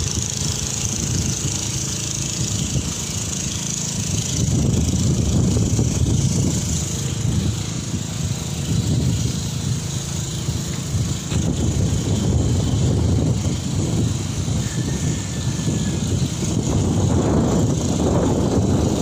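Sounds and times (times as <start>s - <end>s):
engine rumbling with hiss: 0.0s - 19.0s.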